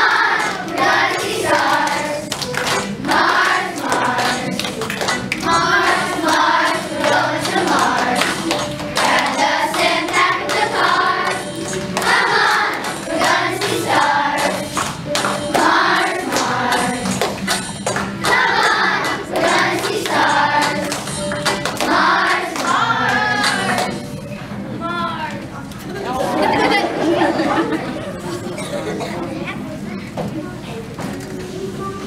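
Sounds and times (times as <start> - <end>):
children's choir singing: 0.0 - 24.4, 26.1 - 29.8
musical accompaniment: 0.0 - 25.8.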